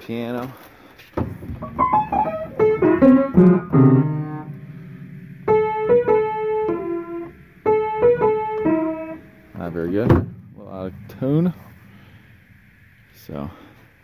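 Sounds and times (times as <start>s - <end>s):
upright piano playing: 1.2s - 12.9s.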